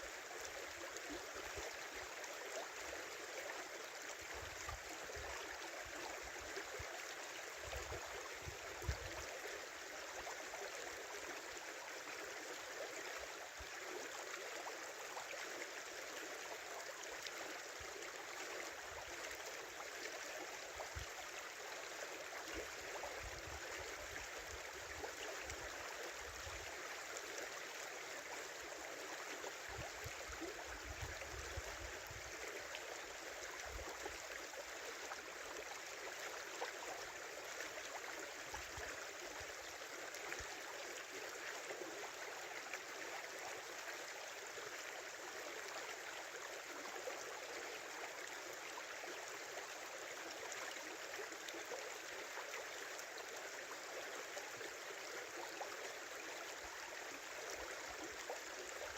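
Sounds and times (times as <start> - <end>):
river water rushing and babbling: 0.0 - 58.9.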